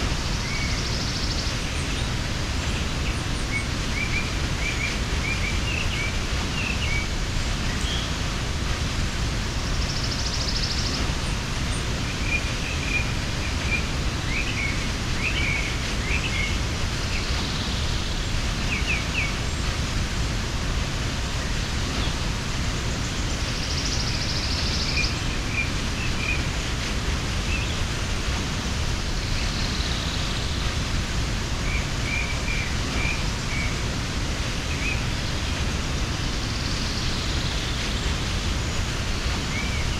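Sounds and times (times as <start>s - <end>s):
small birds chirping: 0.0s - 39.9s
waterfall rushing: 0.0s - 39.9s.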